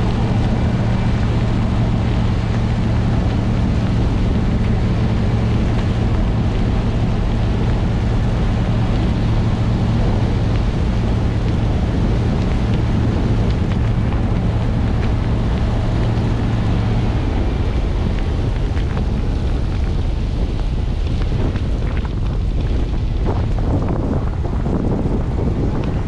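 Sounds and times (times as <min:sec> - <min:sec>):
engine droning: 0:00.0 - 0:26.0
tyres churning snow: 0:00.0 - 0:26.0
wind noise on microphone: 0:00.0 - 0:26.0.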